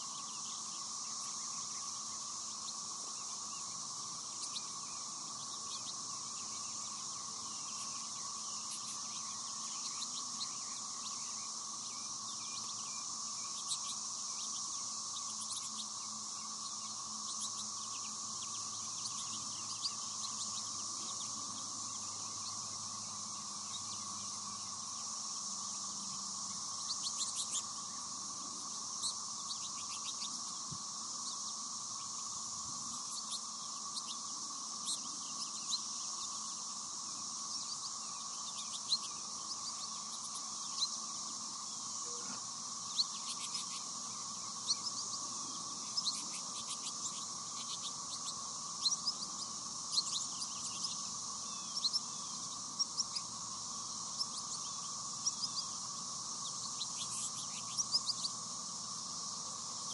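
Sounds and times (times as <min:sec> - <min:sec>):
birds chirping and twittering: 0:00.0 - 0:59.9
high insect drone: 0:00.0 - 0:59.9.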